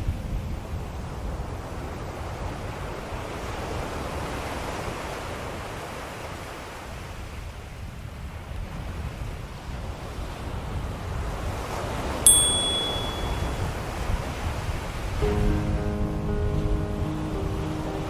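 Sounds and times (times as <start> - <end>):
ocean waves breaking on shore: 0.9 - 18.0.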